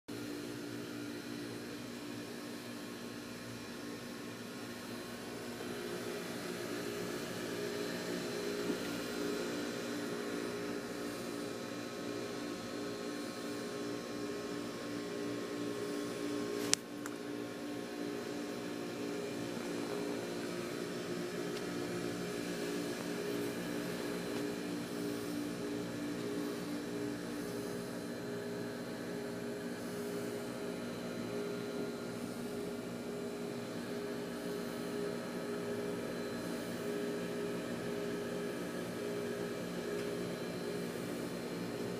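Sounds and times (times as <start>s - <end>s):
engine room machinery hum: 0.1s - 41.9s.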